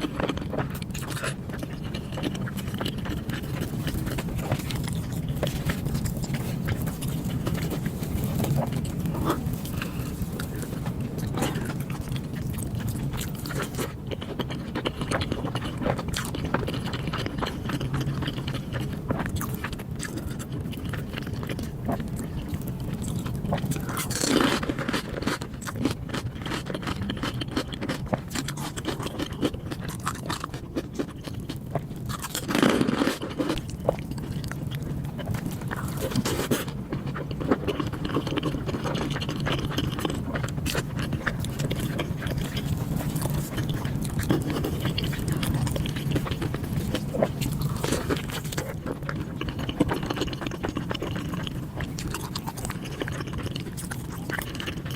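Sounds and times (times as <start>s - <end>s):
wet chewing: 0.0s - 54.9s.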